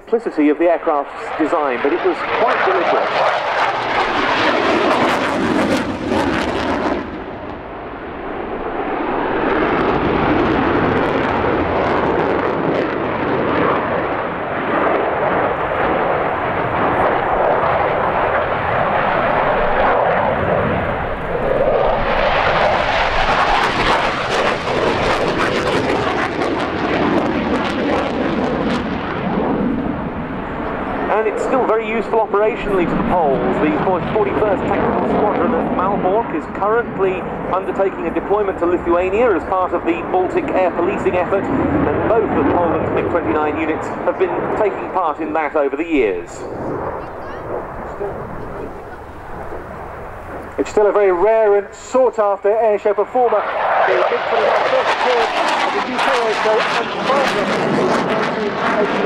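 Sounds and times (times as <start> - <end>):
jet flying past: 0.0 - 59.0.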